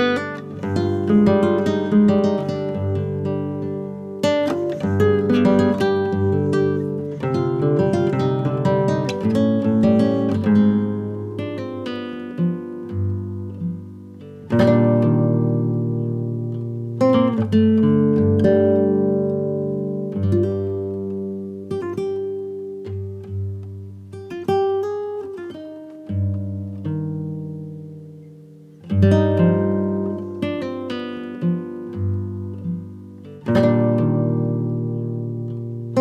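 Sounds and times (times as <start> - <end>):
acoustic guitar plucking: 0.0 - 36.0.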